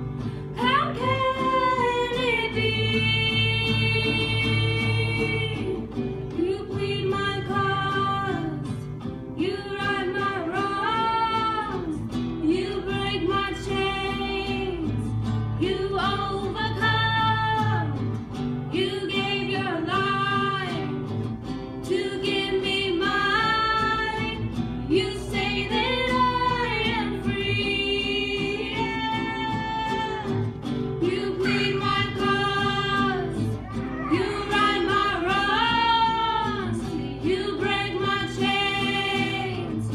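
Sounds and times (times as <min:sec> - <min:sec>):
women singing slow song: 0:00.0 - 0:21.2, 0:21.8 - 0:39.9
strummed acoustic guitar: 0:00.0 - 0:39.9.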